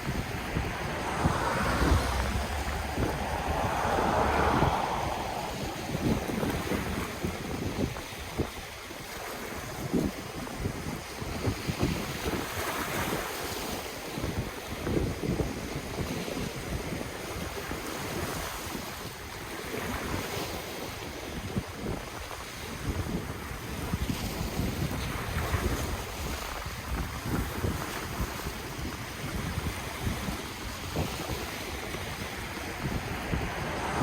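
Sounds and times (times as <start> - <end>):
ocean waves washing on shore: 0.0 - 34.0
wind buffeting microphone: 0.0 - 34.0.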